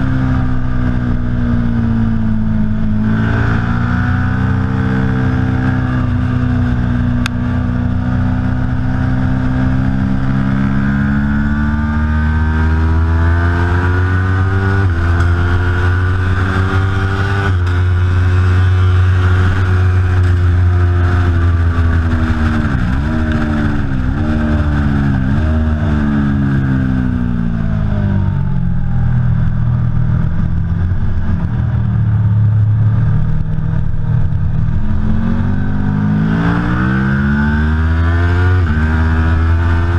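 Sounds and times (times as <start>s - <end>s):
engine downshifts: 0.0s - 31.6s, 32.2s - 39.9s
motorcycle engine revving: 0.0s - 39.9s.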